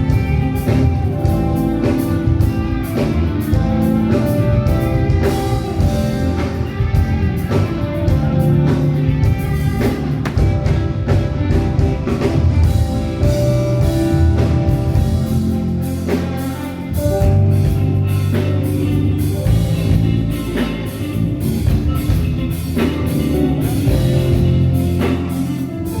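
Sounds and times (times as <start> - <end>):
drum kit hits: 0.0 - 26.0
guitar: 0.0 - 26.0
low bass notes: 0.0 - 26.0.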